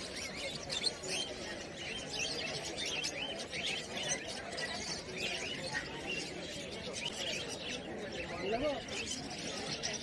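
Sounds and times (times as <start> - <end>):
cage birds chirping: 0.0 - 10.0
murmur of crowd voices: 0.0 - 10.0.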